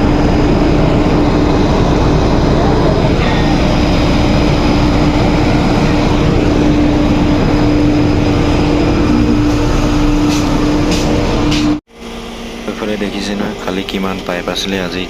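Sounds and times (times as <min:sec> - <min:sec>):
drilling rig machinery running: 0:00.0 - 0:15.0.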